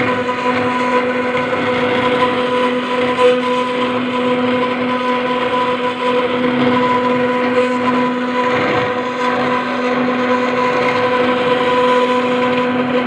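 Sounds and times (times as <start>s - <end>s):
router spindle cutting stone: 0.0s - 13.0s.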